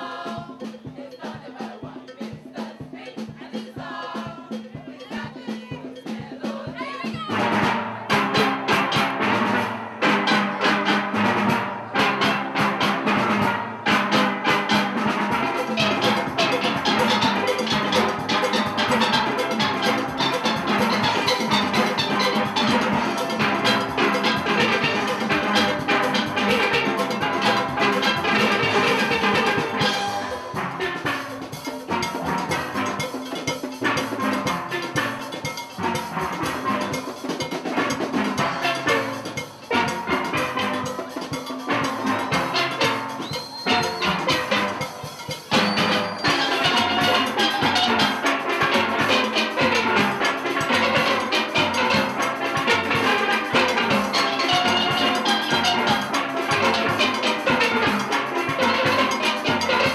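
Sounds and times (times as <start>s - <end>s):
drums and percussion: 0.0s - 59.9s
steel pans playing: 0.0s - 59.9s.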